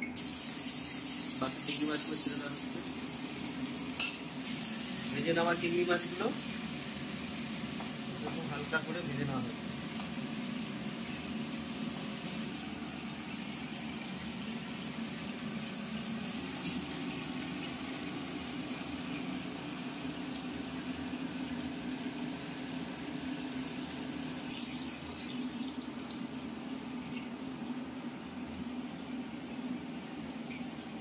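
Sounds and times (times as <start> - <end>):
prawns sizzling in oil: 0.0 - 29.5.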